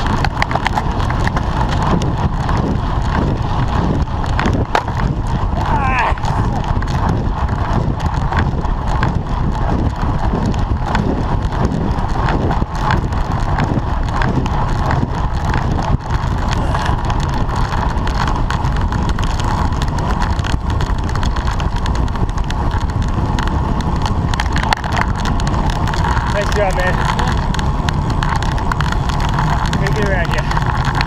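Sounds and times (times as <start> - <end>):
small clicks and knocks: 0.0 - 3.2, 6.2 - 31.0
road and tyre noise: 0.0 - 31.0
wind rushing over camera: 0.0 - 31.0.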